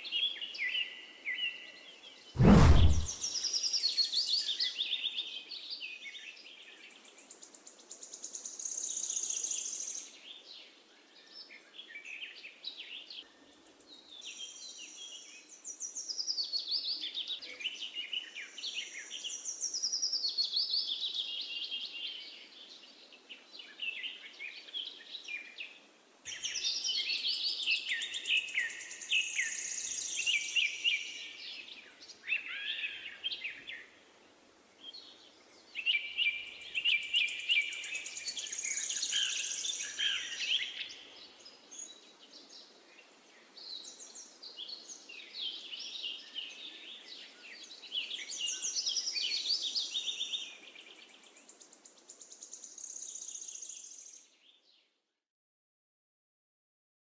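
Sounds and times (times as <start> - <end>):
songbirds chirping and trilling: 9.2 - 54.9.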